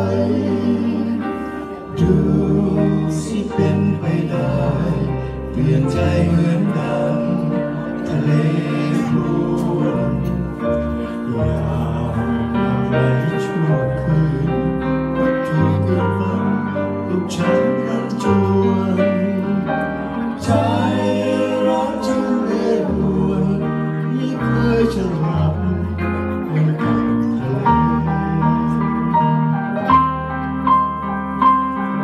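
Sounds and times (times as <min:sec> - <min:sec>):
person singing: 0:00.0 - 0:30.2
keyboard: 0:00.0 - 0:32.0
low bass line: 0:00.0 - 0:32.0.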